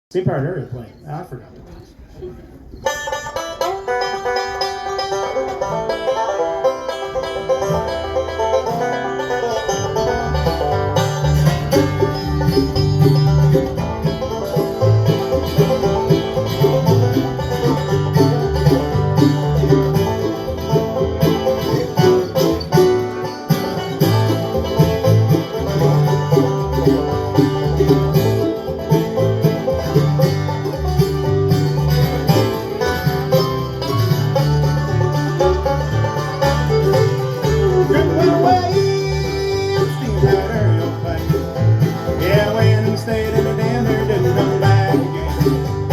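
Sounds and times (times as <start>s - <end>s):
guitar: 2.6s - 45.9s
banjo picking: 2.8s - 45.9s
bass line: 3.3s - 45.9s.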